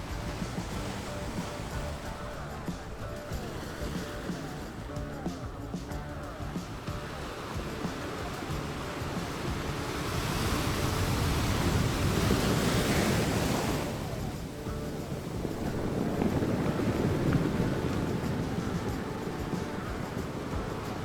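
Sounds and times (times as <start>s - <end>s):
ocean waves surging and washing: 0.0s - 21.0s.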